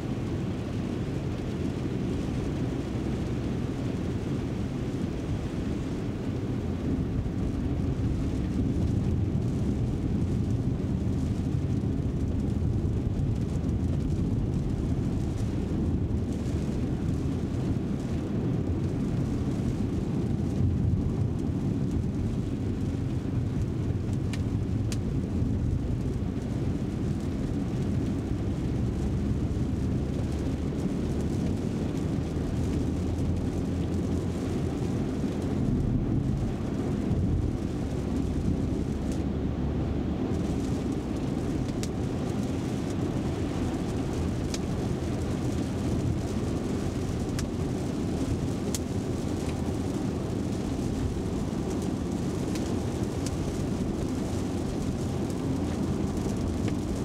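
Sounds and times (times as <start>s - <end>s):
tyre noise on wet road: 0.0s - 57.0s.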